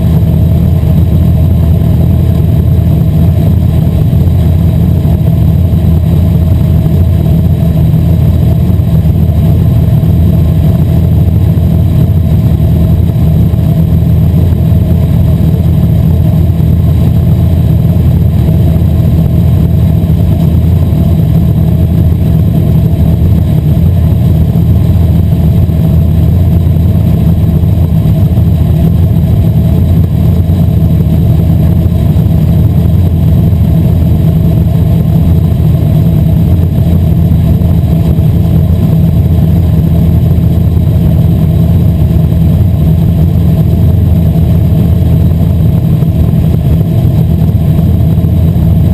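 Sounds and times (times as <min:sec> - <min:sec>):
race car engine running: 0:00.0 - 0:48.9.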